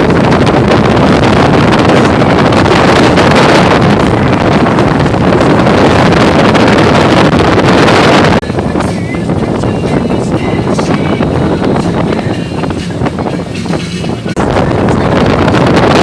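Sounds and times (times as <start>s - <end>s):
motorboat rushing through water: 0.0s - 16.0s
wind buffeting microphone: 0.0s - 16.0s.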